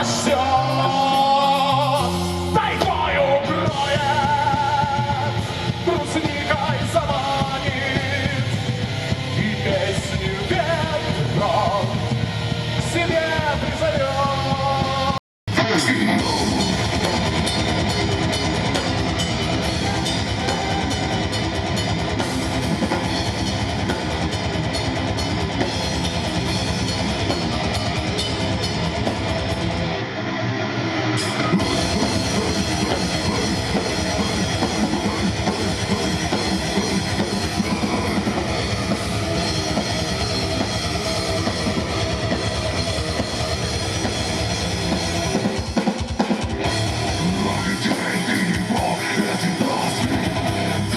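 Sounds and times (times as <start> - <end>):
drum kit: 0.0 - 30.2, 30.9 - 50.9
electric guitar: 0.0 - 50.9
rock music: 0.0 - 50.9.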